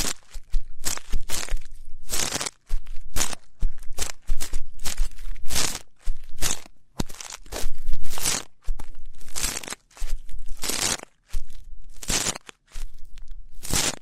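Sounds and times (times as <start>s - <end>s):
ear pick scratching microphone: 0.0s - 14.0s.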